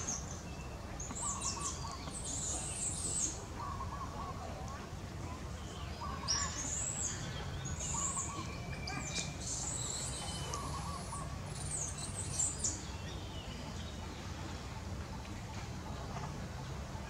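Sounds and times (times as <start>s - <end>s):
birds chirping: 0.0s - 4.3s, 5.5s - 15.3s.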